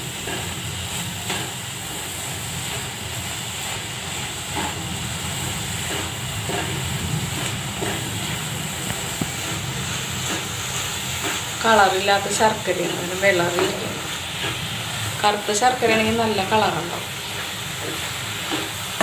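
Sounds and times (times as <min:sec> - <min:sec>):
syrup sizzling in a pan: 0:00.0 - 0:19.0.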